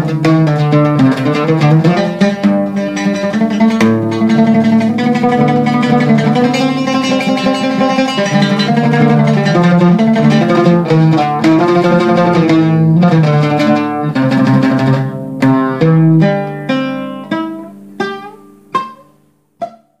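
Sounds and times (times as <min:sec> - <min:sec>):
oud melody plucked: 0:00.0 - 0:20.0.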